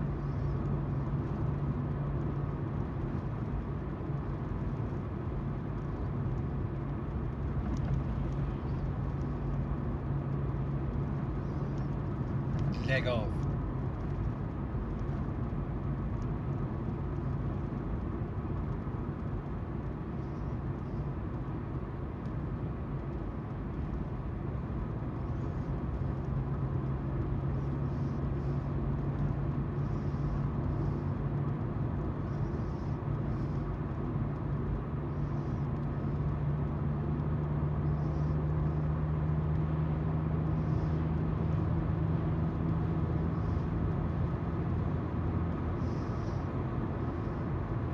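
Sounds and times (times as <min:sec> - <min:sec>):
car engine hum: 0:00.0 - 0:47.9
tyre noise on road: 0:00.0 - 0:47.9.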